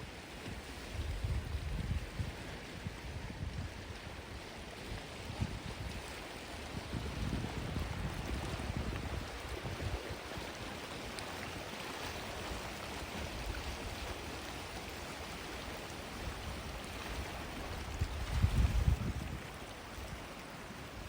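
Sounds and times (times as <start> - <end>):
sea waves washing on beach: 0.0 - 21.0.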